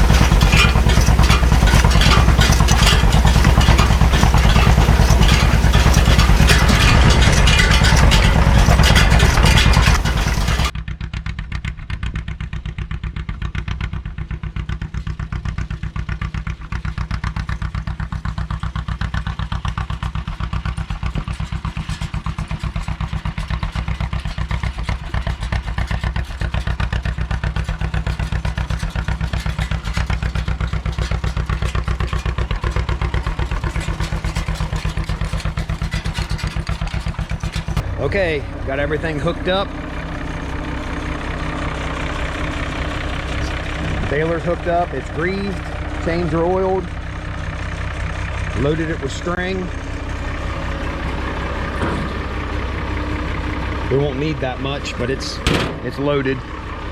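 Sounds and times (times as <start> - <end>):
tractor engine idling: 0.0 - 56.9.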